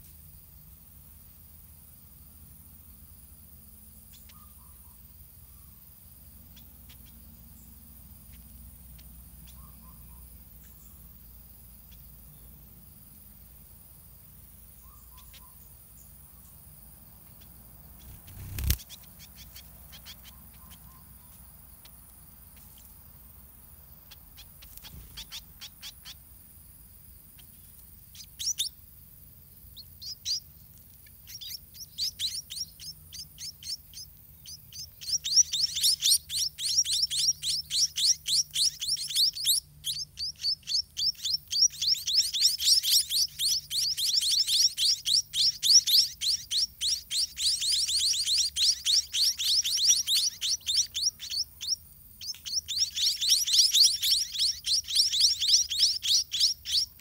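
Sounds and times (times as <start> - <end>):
bird chicks chirping: 6.4 - 12.9, 14.2 - 26.4, 27.3 - 57.0.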